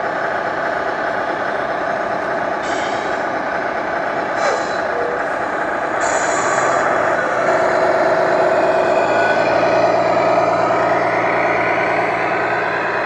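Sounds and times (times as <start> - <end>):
simulated truck engine sound: 0.0 - 13.0.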